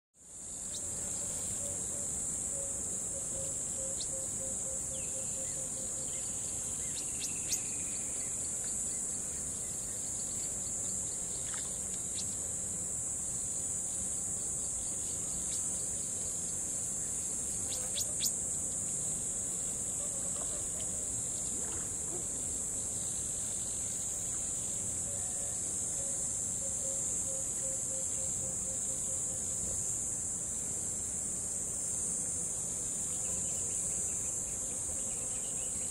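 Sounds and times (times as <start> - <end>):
crickets trilling: 0.2 - 35.9
low pulsing insect call: 0.2 - 35.9.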